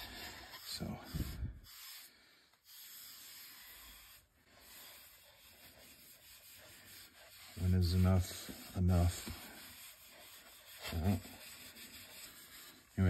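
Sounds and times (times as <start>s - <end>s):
cloth pad scrubbing wood: 0.0s - 13.0s.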